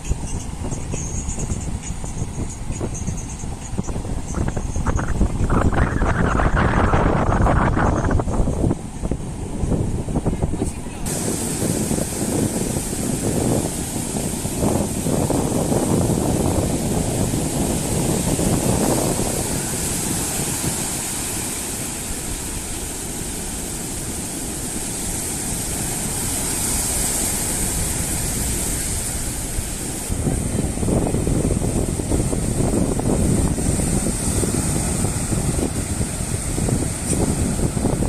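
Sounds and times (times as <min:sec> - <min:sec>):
sea surf washing: 0:00.0 - 0:38.0
wind buffeting microphone: 0:00.0 - 0:38.0.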